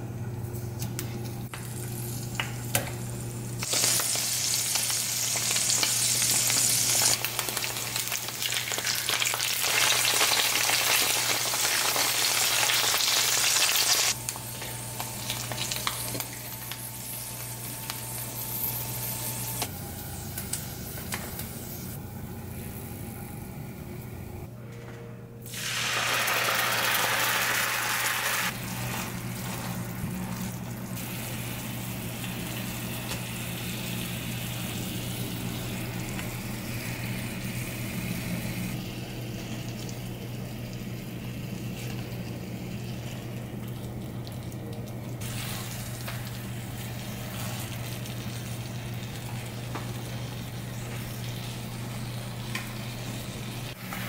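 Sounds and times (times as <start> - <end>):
food sizzling in frying pan: 1.6 - 19.6, 25.5 - 43.3, 45.2 - 54.0.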